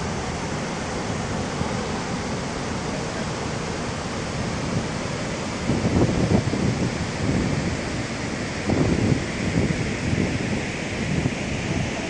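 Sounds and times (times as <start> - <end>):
water thundering down spillway: 0.0 - 12.0.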